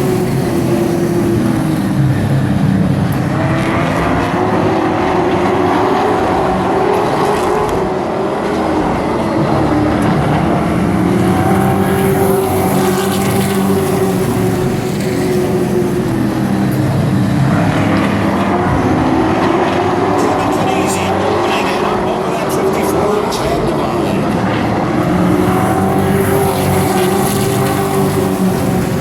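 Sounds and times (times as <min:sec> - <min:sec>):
race truck engines revving: 0:00.0 - 0:29.0.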